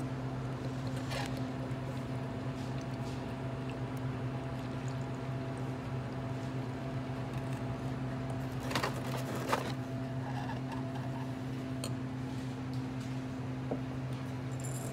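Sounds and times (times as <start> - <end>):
low electrical hum: 0.0 - 14.9.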